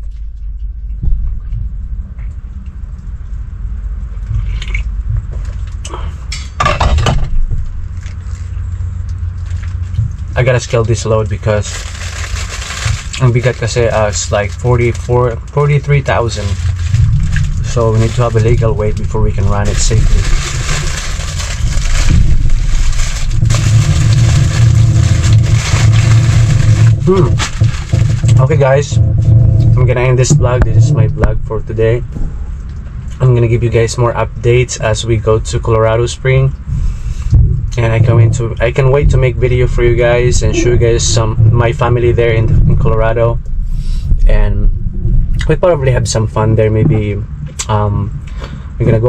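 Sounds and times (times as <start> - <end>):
road and wind noise: 0.0 - 49.0
truck engine rumble: 0.0 - 49.0.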